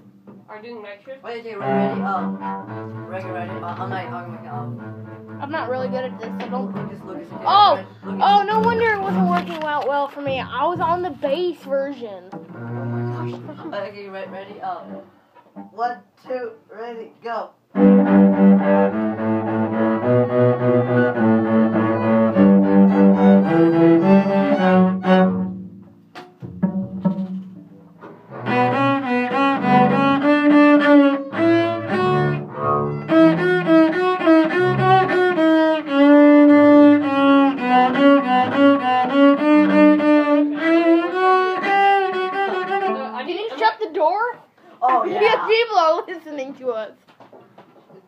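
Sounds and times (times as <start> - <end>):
cello being bowed: 1.4 - 11.2, 12.3 - 15.8, 17.7 - 43.3.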